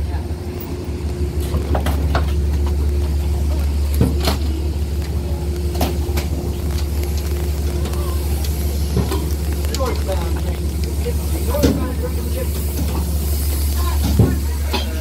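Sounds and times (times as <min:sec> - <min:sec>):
train humming: 0:00.0 - 0:15.0.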